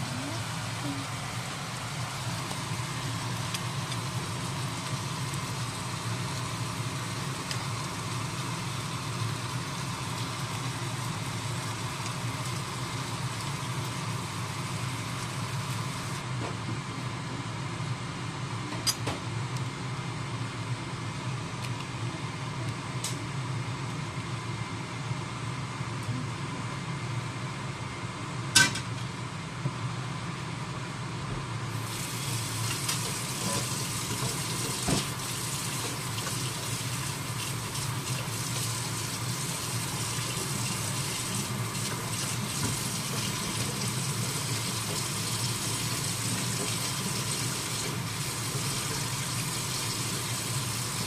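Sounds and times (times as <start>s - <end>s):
kitchen extractor fan humming: 0.0s - 51.0s.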